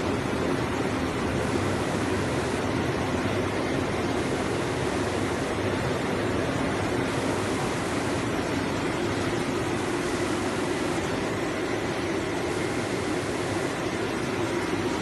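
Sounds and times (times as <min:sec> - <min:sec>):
printing machine running: 0:00.0 - 0:15.0.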